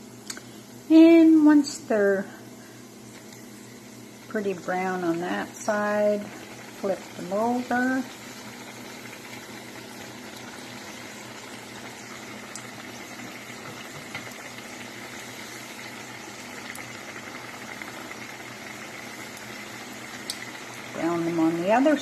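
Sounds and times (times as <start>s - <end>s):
hot oil bubbling and sizzling: 0.9s - 22.0s.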